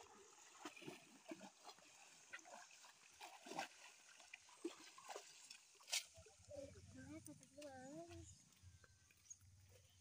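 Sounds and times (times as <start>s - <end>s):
water splashing and sloshing: 0.0s - 9.9s.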